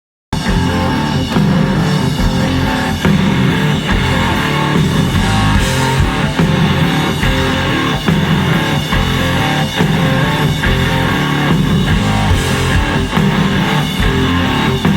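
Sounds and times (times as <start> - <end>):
distorted electric guitar: 0.4 - 14.9
drum kit beating: 0.4 - 14.9.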